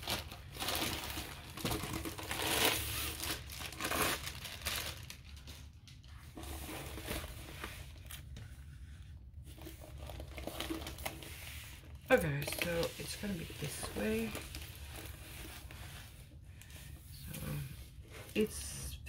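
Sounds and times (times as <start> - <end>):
plastic and paper crinkling: 0.0 - 18.6.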